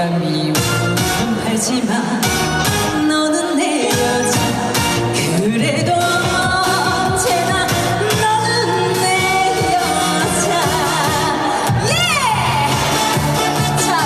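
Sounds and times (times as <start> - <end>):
woman singing: 0.0 - 2.3, 2.9 - 14.0
backing track music: 0.0 - 14.0.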